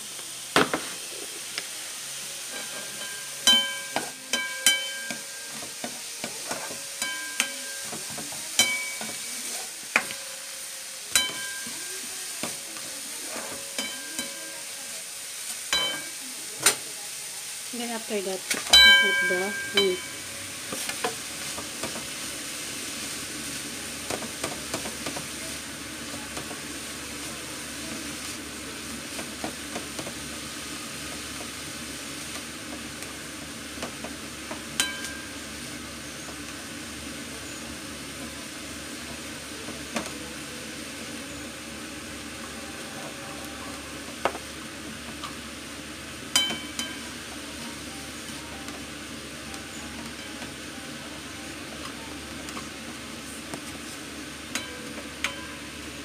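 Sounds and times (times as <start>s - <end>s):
meat sizzling in a pan: 0.0s - 56.0s.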